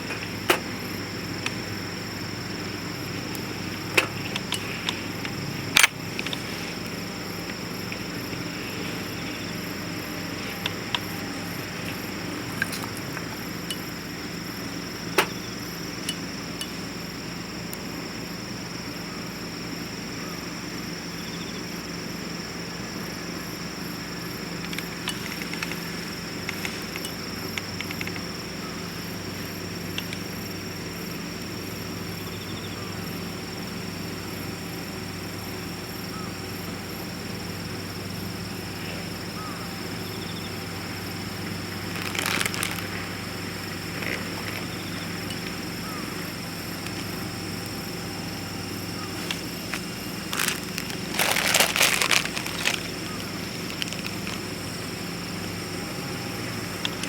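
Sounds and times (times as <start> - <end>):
stove fire hiss: 0.0 - 57.0.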